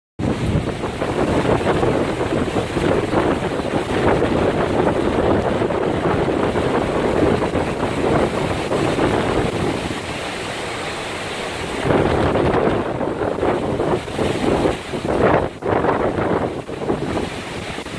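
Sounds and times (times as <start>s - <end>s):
heavy driving rain: 0.2s - 17.9s
strong wind gusting through trees: 0.2s - 17.9s
wind buffeting microphone: 0.2s - 17.9s.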